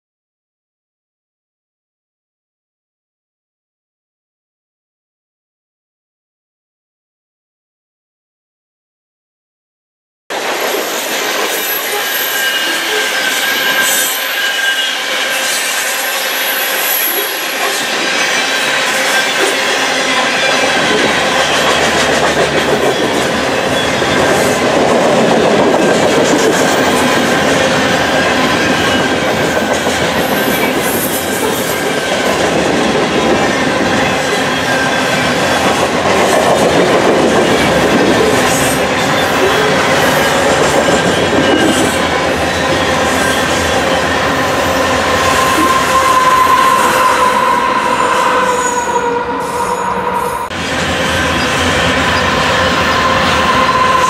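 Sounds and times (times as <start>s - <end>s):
train wheels rumbling on rails: 10.3s - 54.0s
high wheel squeal: 10.6s - 54.0s.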